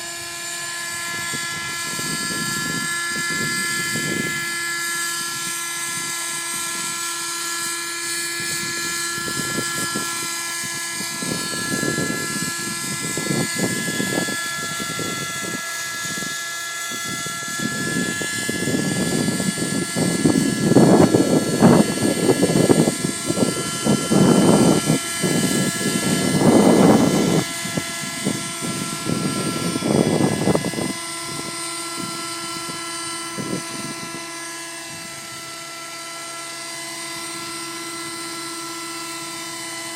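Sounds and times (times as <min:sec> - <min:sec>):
wind buffeting microphone: 0:00.0 - 0:36.1
model helicopter engine whine: 0:00.0 - 0:39.9.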